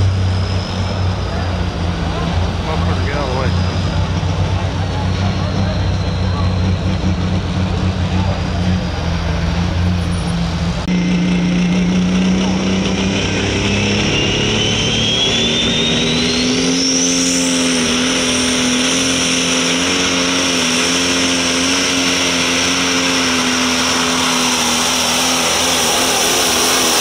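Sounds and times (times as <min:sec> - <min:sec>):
diesel engine running: 0:00.0 - 0:27.0
turbocharger whine: 0:00.0 - 0:27.0.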